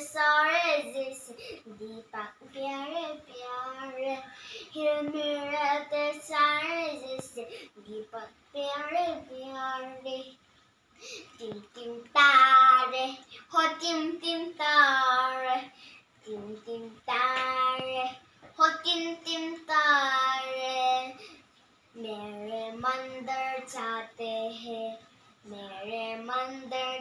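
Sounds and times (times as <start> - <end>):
boy singing unaccompanied: 0.0 - 10.4, 11.3 - 21.2, 22.0 - 27.0.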